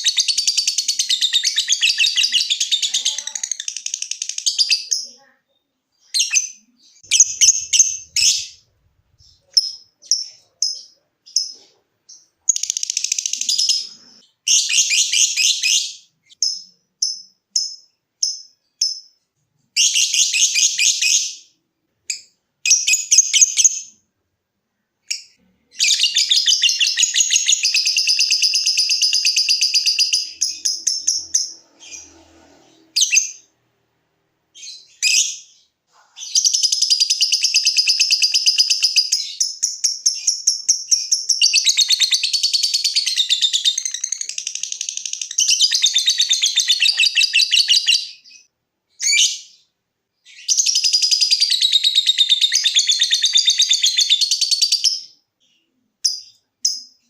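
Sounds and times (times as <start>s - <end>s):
lovebird chirps: 0.0s - 24.0s, 25.0s - 33.5s, 34.5s - 57.0s.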